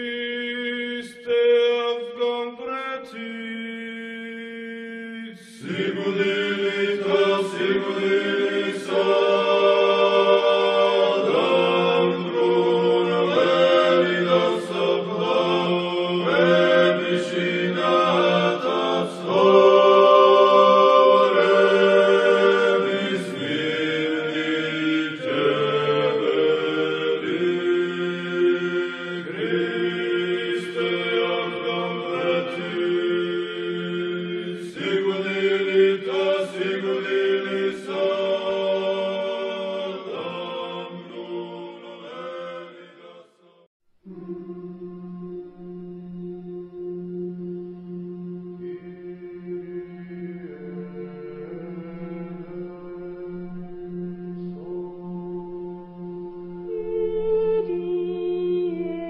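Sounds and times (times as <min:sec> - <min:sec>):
choir chanting a hymn: 0:00.0 - 0:59.0.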